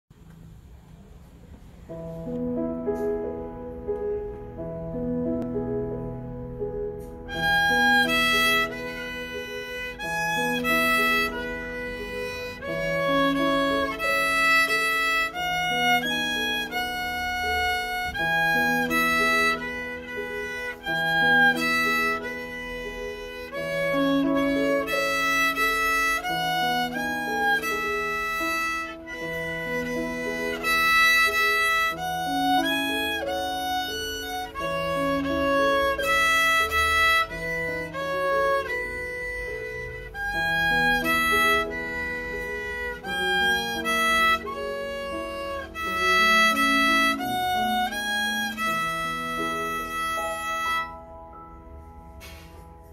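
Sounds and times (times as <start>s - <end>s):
violin playing simple melody: 1.8s - 52.9s.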